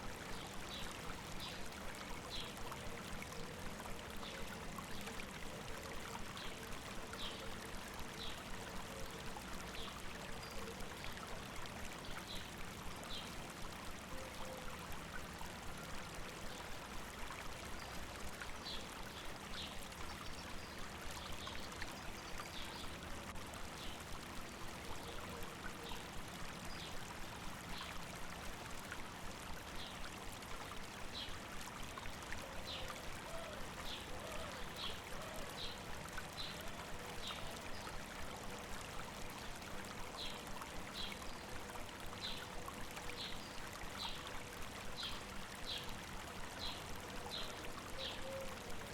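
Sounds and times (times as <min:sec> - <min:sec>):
stream flowing over rocks: 0:00.0 - 0:48.9.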